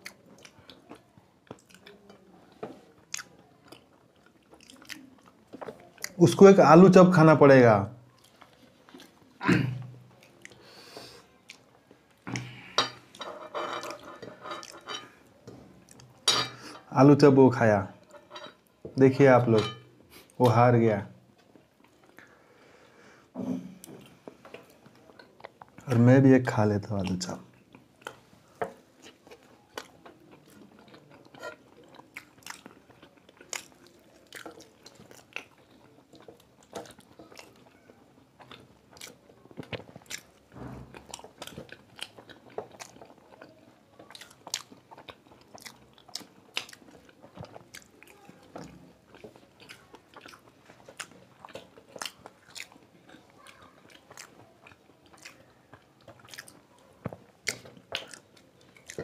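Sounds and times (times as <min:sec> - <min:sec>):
chewing crunchy food: 0:00.0 - 0:06.2, 0:08.0 - 0:16.9, 0:21.4 - 0:22.3, 0:23.8 - 0:26.0, 0:26.9 - 0:59.0.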